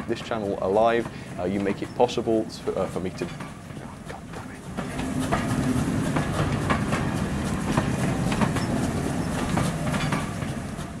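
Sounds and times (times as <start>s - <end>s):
model train rumbling: 0.0s - 11.0s
wheels clicking over rail joints: 0.0s - 11.0s.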